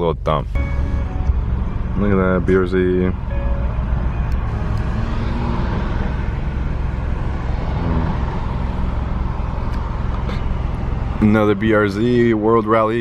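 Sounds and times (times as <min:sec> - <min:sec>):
car interior road and engine rumble: 0:00.0 - 0:13.0.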